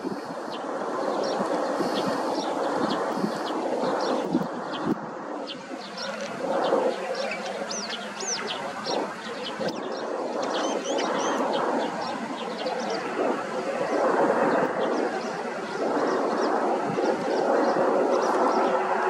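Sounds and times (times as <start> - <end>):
jet engines rumbling: 0.0 - 19.0
small birds chirping: 0.0 - 19.0.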